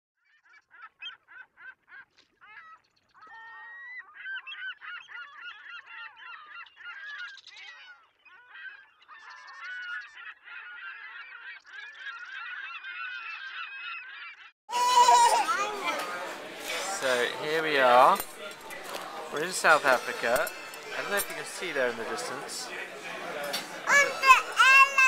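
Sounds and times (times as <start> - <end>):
flock of birds calling: 0.4 - 25.0.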